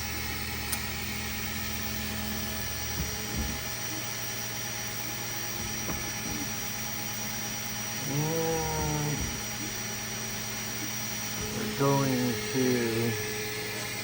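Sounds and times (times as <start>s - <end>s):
three d printer humming: 0.0s - 14.0s.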